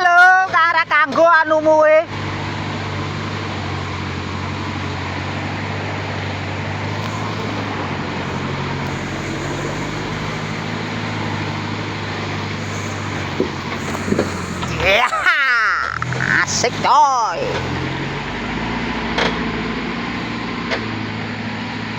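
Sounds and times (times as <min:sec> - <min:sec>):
road and body rumble: 0:00.0 - 0:21.9
truck engine humming: 0:02.1 - 0:21.9.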